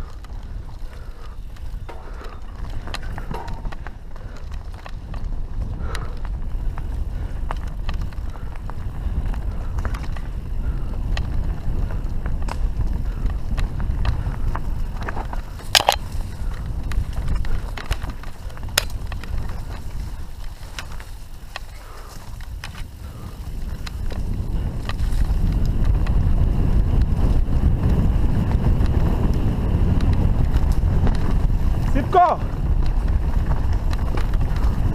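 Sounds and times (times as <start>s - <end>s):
bike clicks and rattles: 0.0s - 34.9s
tyres rolling on dirt: 0.0s - 34.9s
wind rumble on microphone: 0.0s - 34.9s.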